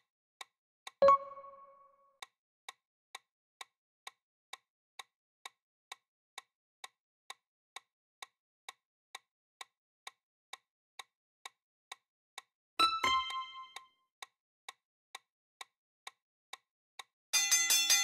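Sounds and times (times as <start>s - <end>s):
faint timer ticks: 0.0s - 18.0s.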